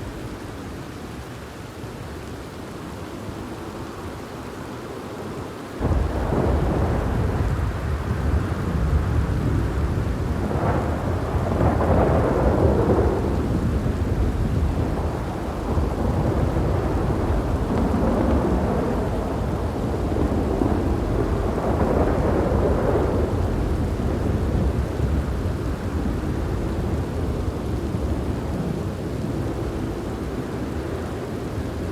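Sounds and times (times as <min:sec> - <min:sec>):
steady rain: 0:00.0 - 0:31.9
rolling thunder: 0:05.8 - 0:31.9.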